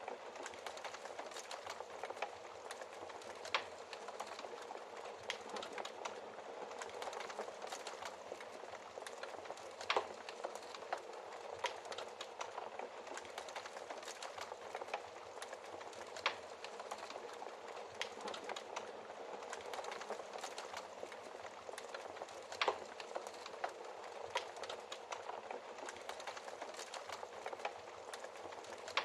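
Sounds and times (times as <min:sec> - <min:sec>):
fire crackling in a fireplace: 0:00.0 - 0:29.0.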